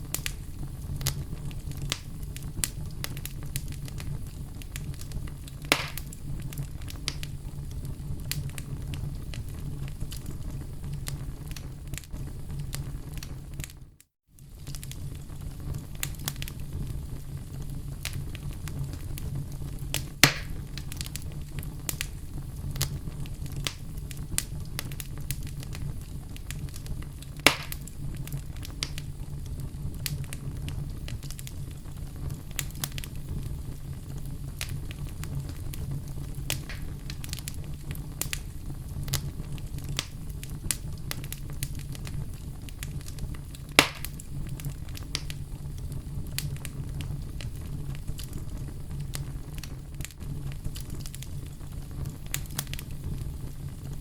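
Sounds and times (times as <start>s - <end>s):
sharp fire pops: 0.0s - 13.8s, 14.4s - 54.0s
low rumble of flames: 0.0s - 54.0s
wood fire crackling: 0.0s - 54.0s.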